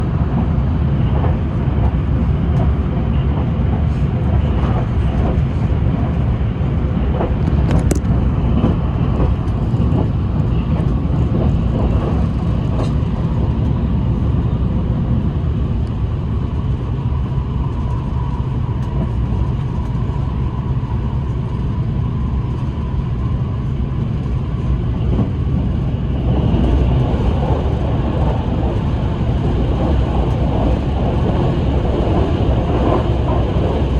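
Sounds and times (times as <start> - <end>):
train rumbling at speed: 0.0 - 33.9.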